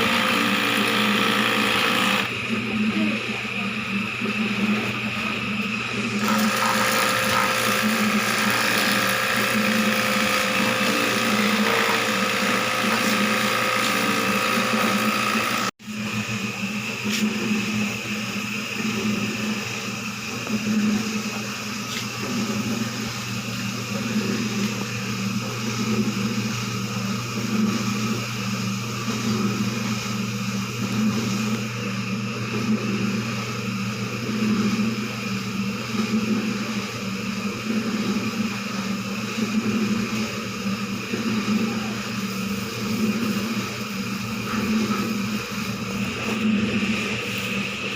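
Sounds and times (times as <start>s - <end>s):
small motor humming and hissing: 0.0s - 2.4s, 3.0s - 47.9s.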